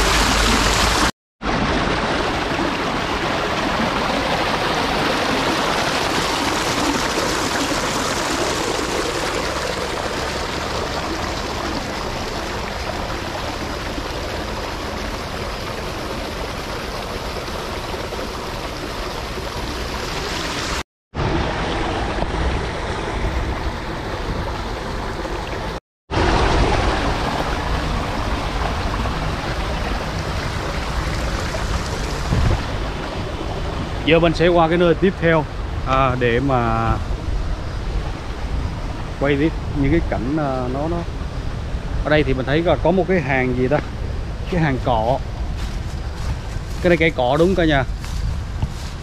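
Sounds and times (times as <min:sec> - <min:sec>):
water flowing over stones: 0:00.0 - 0:37.0, 0:42.1 - 0:49.0.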